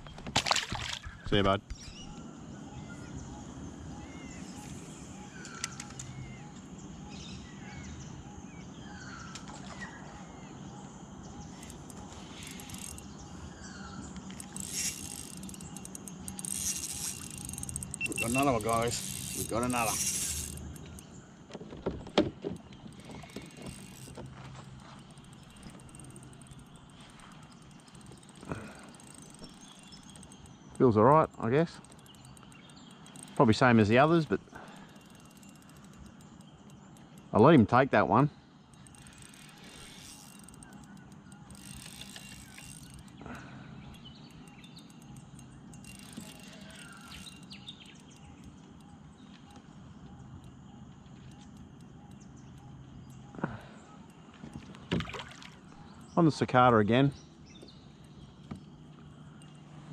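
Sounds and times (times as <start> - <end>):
low outdoor background noise: 0.0 - 59.9
faint bird chirps: 1.0 - 21.5, 22.6 - 59.9
faint mechanical rattle: 11.4 - 55.1, 55.7 - 59.9.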